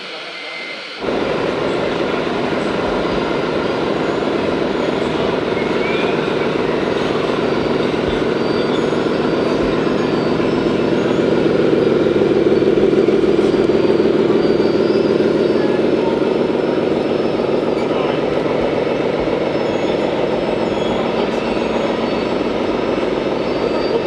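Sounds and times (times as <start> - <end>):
truck engine running: 1.0 - 24.0.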